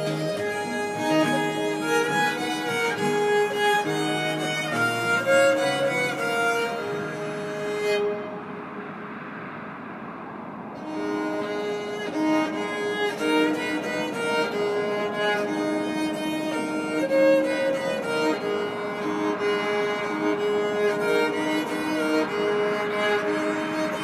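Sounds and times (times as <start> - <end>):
violin playing slow melody: 0.0 - 9.4, 10.8 - 24.0.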